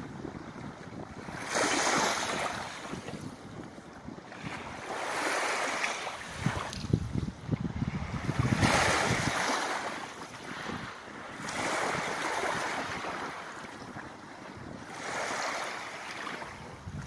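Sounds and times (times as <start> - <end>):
small waves lapping: 0.0 - 17.0
wind gusting on microphone: 0.0 - 17.0.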